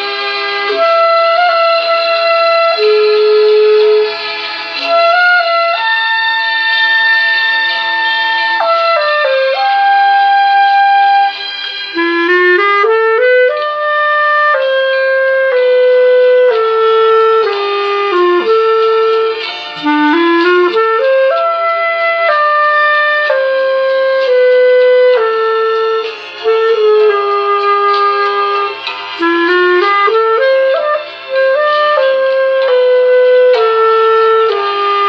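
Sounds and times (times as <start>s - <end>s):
clarinet playing slow melody: 0.0s - 35.0s.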